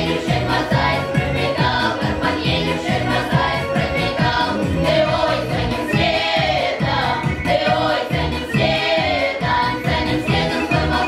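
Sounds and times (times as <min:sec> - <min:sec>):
steady beat accompaniment: 0:00.0 - 0:11.0
women singing in harmony: 0:00.0 - 0:11.0.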